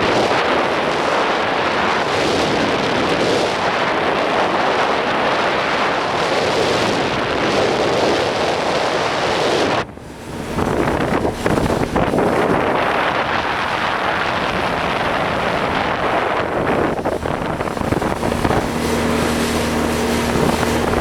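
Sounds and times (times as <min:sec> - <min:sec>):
boat rushing through water: 0:00.0 - 0:21.0
wind buffeting microphone: 0:00.0 - 0:21.0.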